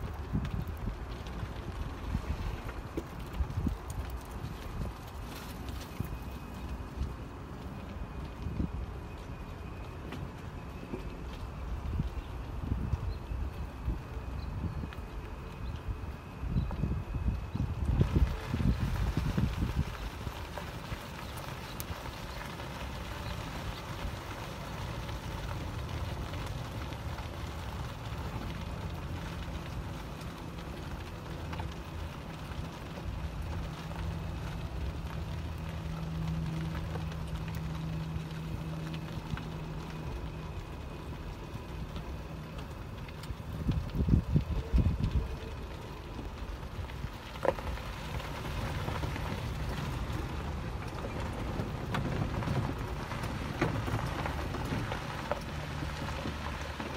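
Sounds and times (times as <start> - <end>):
vehicle rumbling on rough road: 0.0 - 56.9.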